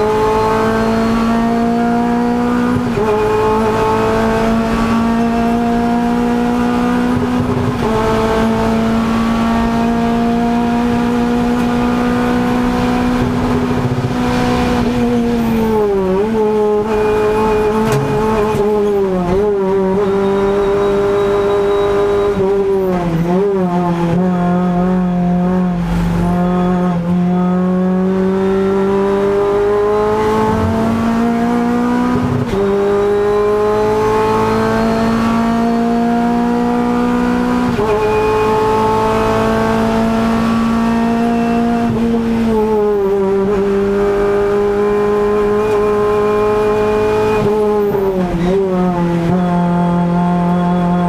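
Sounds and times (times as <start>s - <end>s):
race car engine revving: 0.0s - 51.0s.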